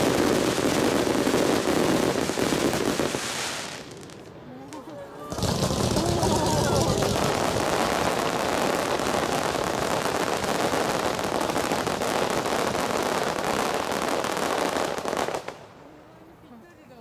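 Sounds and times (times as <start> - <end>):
fireworks bursting and crackling: 0.0 - 15.8.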